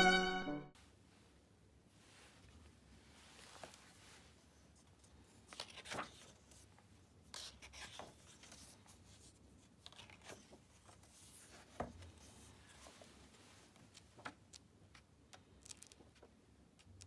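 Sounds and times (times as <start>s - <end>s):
book pages turning: 3.3s - 17.0s.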